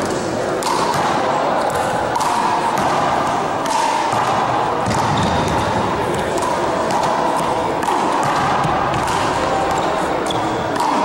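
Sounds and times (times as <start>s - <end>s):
handball smacks: 0.0s - 11.0s
steady background noise: 0.0s - 11.0s.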